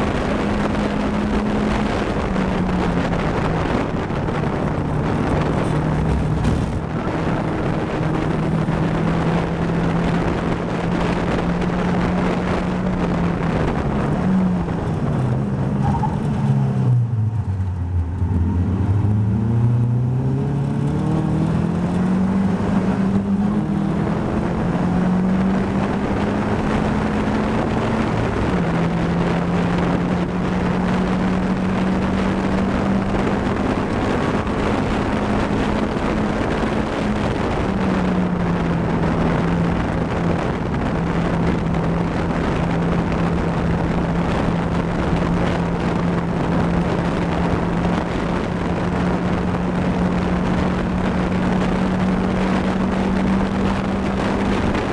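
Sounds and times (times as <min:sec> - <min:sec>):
race car engine accelerating: 0:00.0 - 0:54.9.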